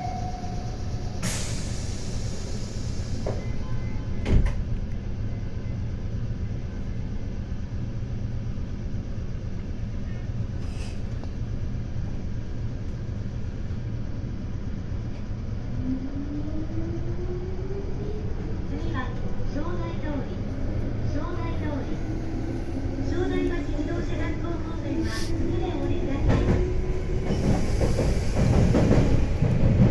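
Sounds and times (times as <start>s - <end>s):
train running low rumble: 0.0s - 29.9s.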